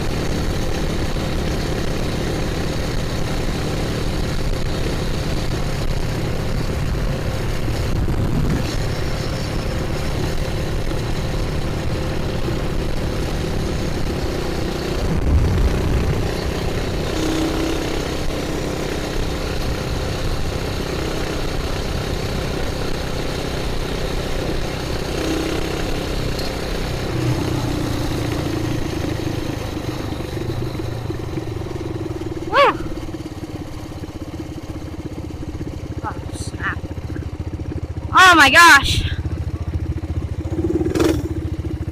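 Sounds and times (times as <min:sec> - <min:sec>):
mini bike engine revving: 0:00.0 - 0:41.9.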